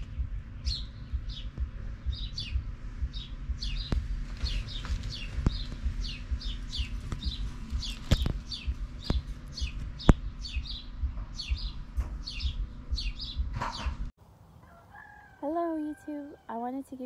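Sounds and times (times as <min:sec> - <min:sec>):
chicks peeping: 0:00.0 - 0:14.1.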